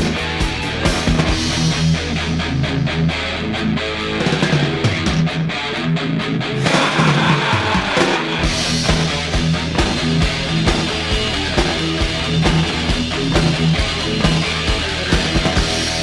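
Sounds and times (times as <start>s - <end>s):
drum beats: 0.0s - 2.2s, 4.2s - 5.5s, 6.6s - 16.0s
bass: 0.0s - 16.0s
electric guitar: 0.0s - 16.0s.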